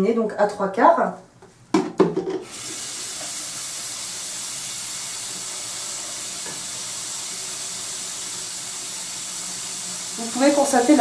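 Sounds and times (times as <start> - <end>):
tap water filling bottle: 1.7 - 11.0.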